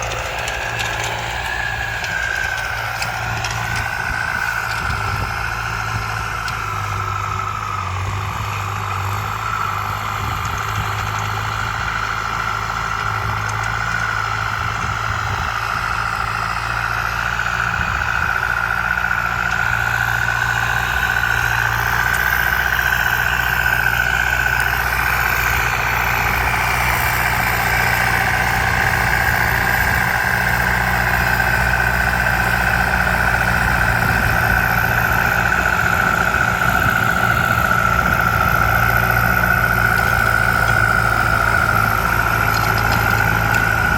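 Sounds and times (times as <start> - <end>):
tractor engine with high whine: 0.0 - 43.9.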